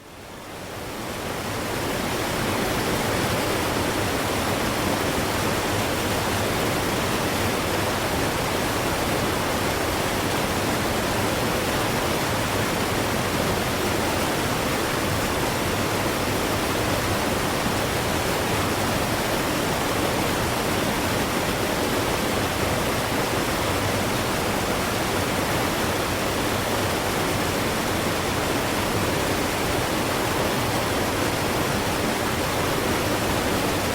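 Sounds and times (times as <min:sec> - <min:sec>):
waterfall rushing: 0:00.6 - 0:33.9.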